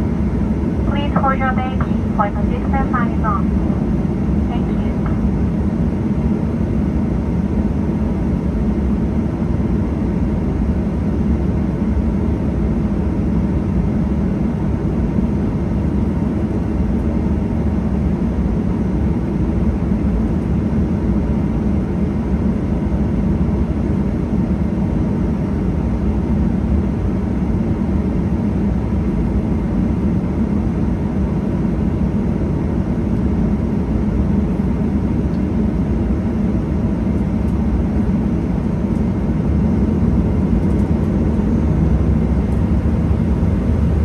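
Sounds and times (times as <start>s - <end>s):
aircraft cabin engine rumble: 0.0s - 44.0s.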